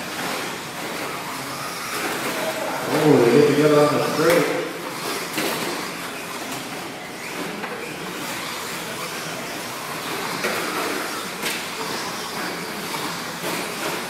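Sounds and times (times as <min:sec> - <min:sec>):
rc truck motors and tyres: 0:00.0 - 0:14.0.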